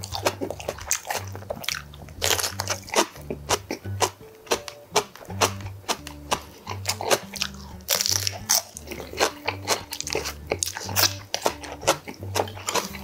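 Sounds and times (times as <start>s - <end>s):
background music with bass pulse: 0.0s - 13.0s
chili pepper being chewed: 0.0s - 13.0s.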